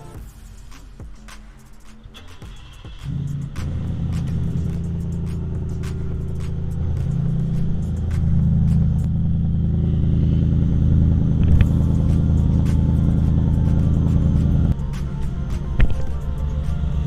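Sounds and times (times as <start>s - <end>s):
engine deep rumble: 2.9s - 17.0s.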